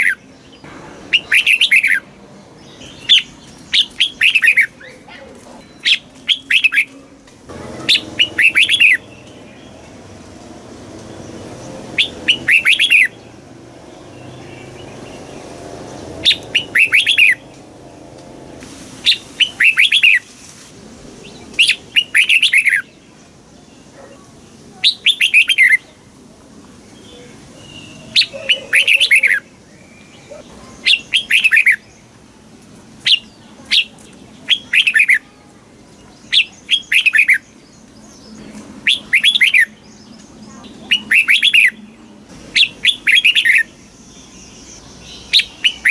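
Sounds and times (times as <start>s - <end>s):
bird singing bright phrases: 0.0s - 20.4s, 21.2s - 26.2s, 26.8s - 45.9s.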